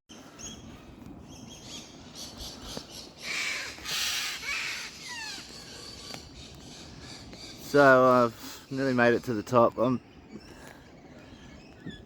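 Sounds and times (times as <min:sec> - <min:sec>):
birds chirping: 0:00.1 - 0:12.0
birds squawking harshly: 0:01.4 - 0:12.0.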